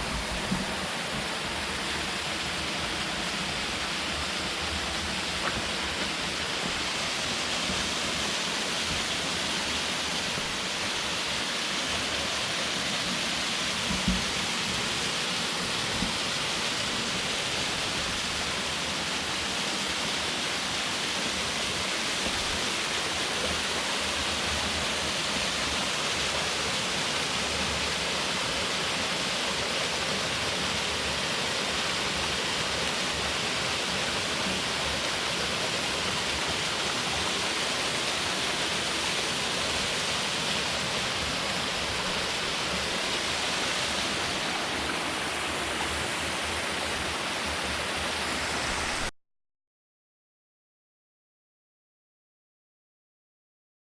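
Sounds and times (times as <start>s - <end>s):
waterfall rushing: 0.0s - 49.1s.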